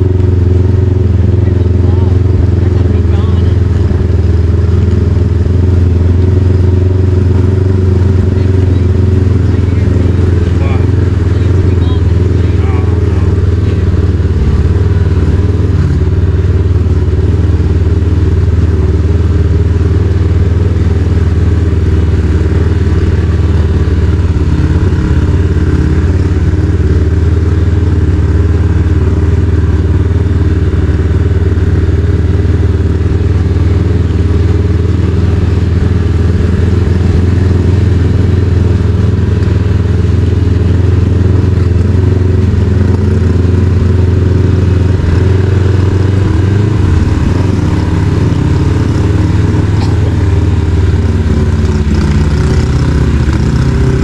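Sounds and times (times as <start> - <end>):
off-road vehicle engine droning: 0.0 - 54.0.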